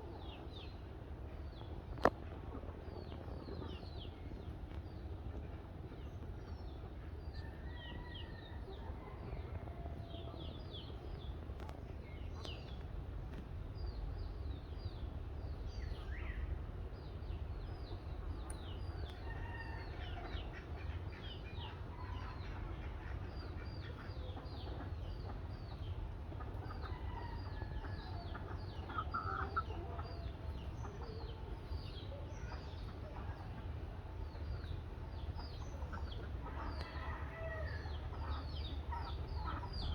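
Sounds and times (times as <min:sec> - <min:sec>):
birds chirping: 0:00.0 - 0:13.2, 0:13.8 - 0:39.9
steady low rumble: 0:00.0 - 0:39.9.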